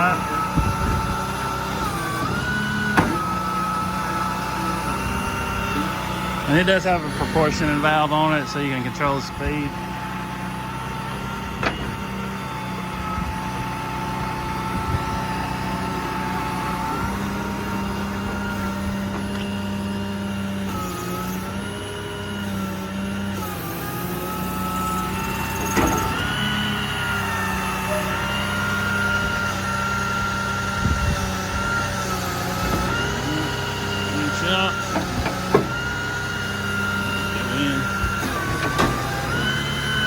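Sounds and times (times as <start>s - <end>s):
hydraulic pump whine: 0.0s - 40.0s
truck engine humming: 0.0s - 40.0s.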